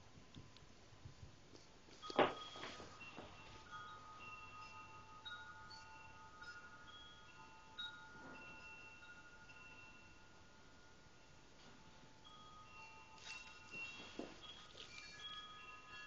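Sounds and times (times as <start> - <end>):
faint bell-like chimes: 1.9 - 16.0.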